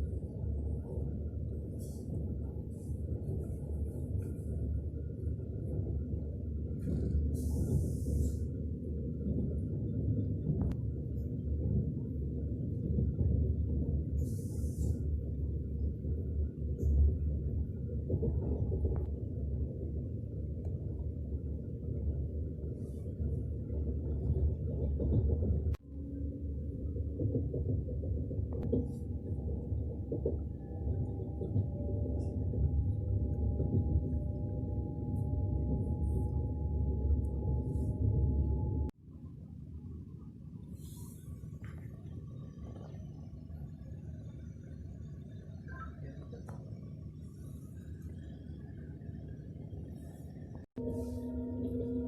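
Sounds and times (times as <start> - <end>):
low rumble: 0.0 - 52.0.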